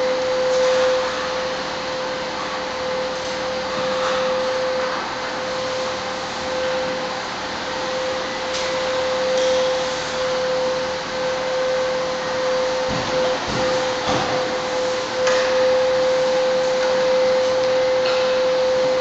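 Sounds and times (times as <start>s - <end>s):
machine whirring hum: 0.0s - 19.0s.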